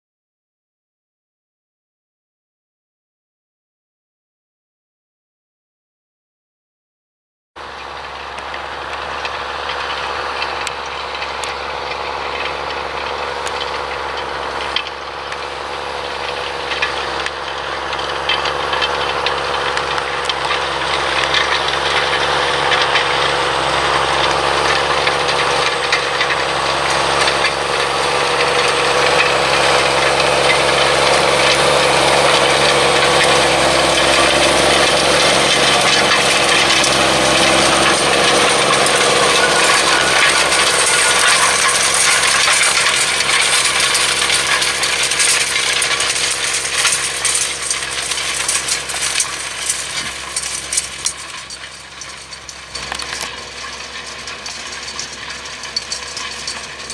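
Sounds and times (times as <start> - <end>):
tractor engine under load: 7.6 - 56.9.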